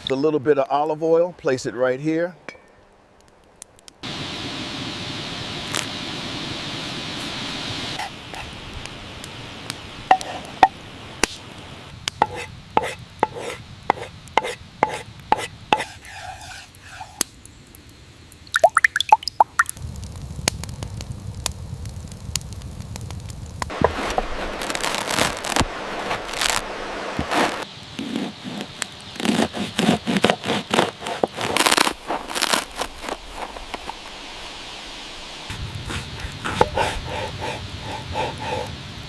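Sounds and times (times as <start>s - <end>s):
steady hiss: 4.0s - 39.0s.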